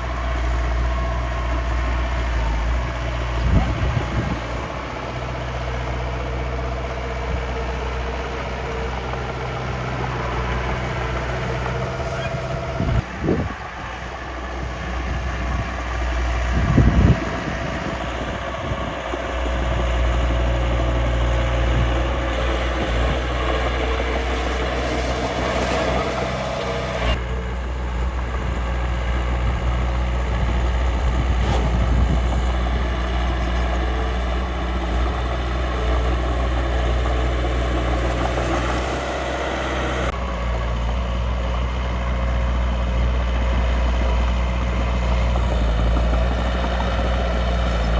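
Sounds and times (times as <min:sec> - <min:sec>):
miniature truck engines running: 0:00.0 - 0:47.9.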